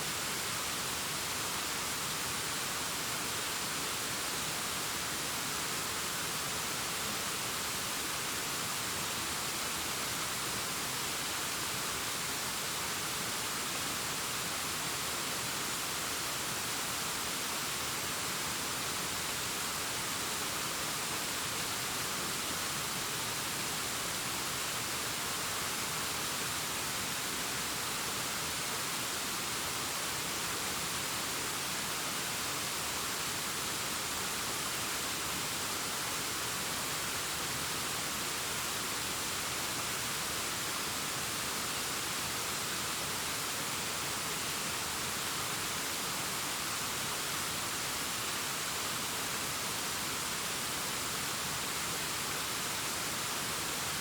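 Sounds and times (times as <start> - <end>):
distant waterfall rushing: 0.0 - 54.0.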